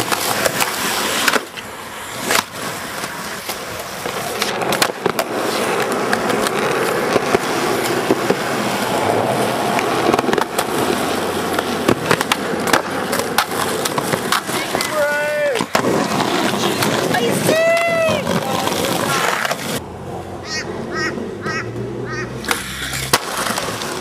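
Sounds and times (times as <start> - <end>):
skateboard clacking on ground: 0.0 - 19.8, 22.4 - 24.0
skateboard wheels rolling on asphalt: 0.0 - 24.0.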